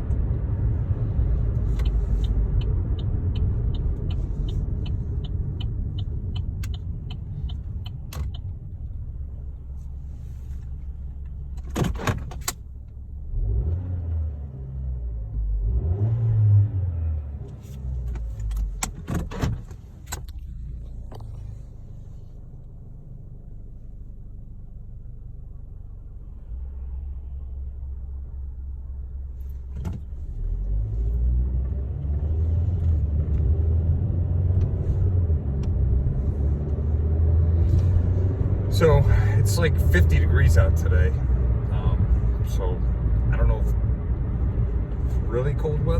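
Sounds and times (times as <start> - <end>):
car engine while driving: 0.0 - 45.9.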